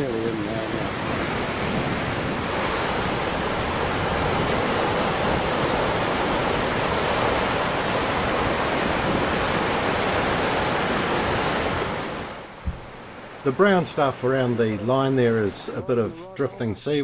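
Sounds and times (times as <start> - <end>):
surf washing up beach: 0.0 - 17.0.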